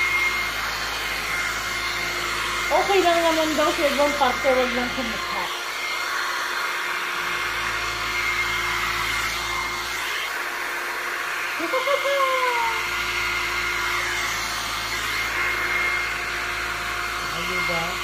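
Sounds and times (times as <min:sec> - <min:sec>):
hair dryer blowing hum: 0:00.0 - 0:18.0.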